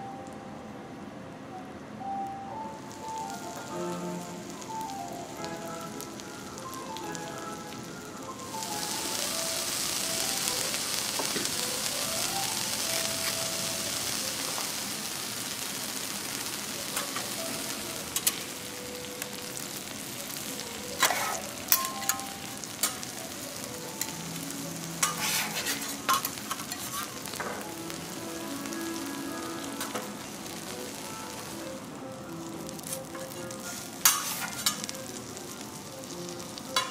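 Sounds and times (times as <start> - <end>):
food sizzling on a steel griddle: 2.6 - 36.9.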